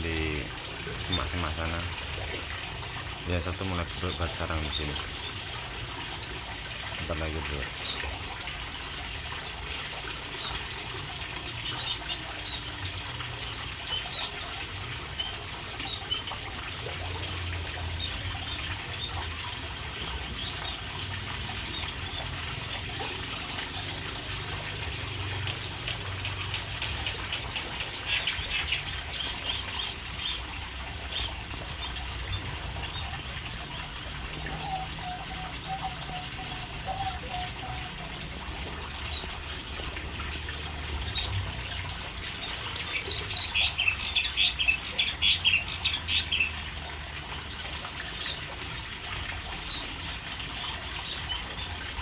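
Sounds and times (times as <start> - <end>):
small birds chirping: 0.0 - 8.5, 9.4 - 52.0
trickle of running water: 0.0 - 52.0.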